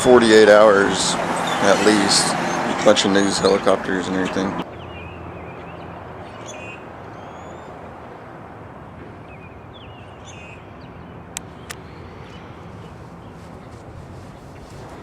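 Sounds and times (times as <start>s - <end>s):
birds chirping: 0.0s - 15.0s
distant helicopter hovering: 0.0s - 15.0s.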